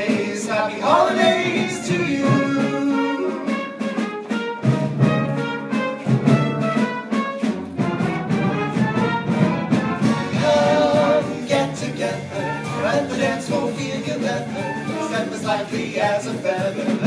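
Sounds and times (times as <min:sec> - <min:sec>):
orchestral swing music with brass: 0:00.0 - 0:17.0.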